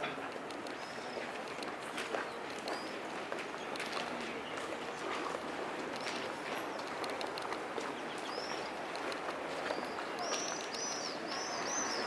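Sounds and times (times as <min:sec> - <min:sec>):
outdoor street noise: 0:00.0 - 0:12.0.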